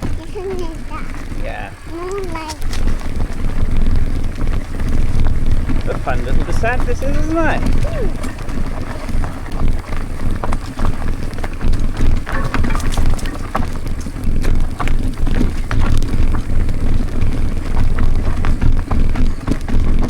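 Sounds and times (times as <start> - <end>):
bike rattling over bumps: 0.0 - 20.0
wind buffeting microphone: 0.0 - 20.0.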